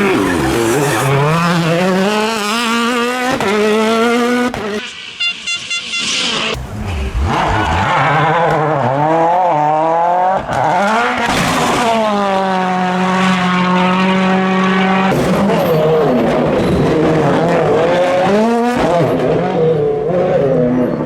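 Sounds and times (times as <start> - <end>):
rally car engine revving: 0.0 - 5.1, 6.0 - 21.0.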